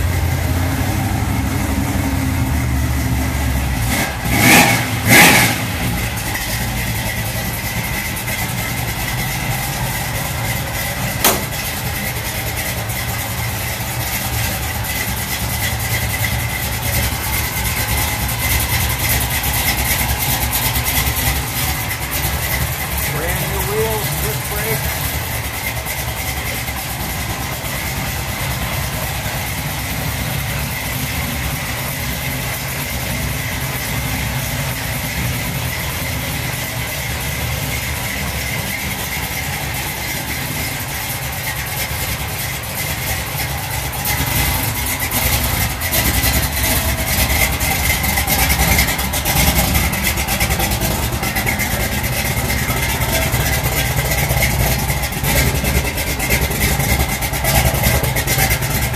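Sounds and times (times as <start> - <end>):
pickup engine idling: 0.0 - 58.9.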